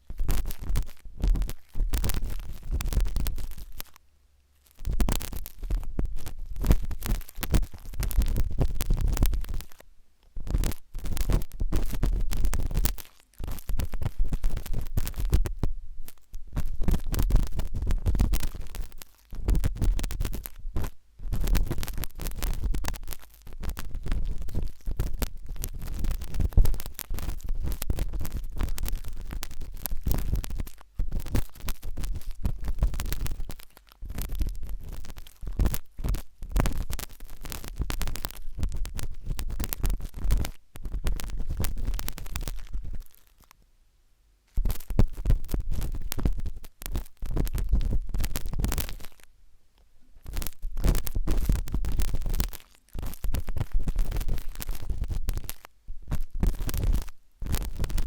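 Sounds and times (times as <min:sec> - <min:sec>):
toothpick scratching inside ear: 0:00.0 - 0:04.0, 0:04.6 - 0:09.8, 0:10.4 - 0:43.5, 0:44.6 - 0:49.2, 0:50.2 - 0:58.0.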